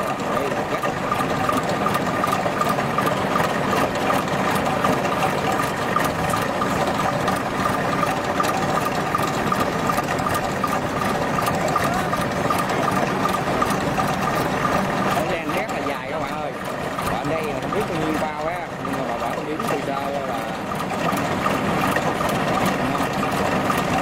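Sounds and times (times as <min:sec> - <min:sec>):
harvester engine idling: 0:00.0 - 0:24.0.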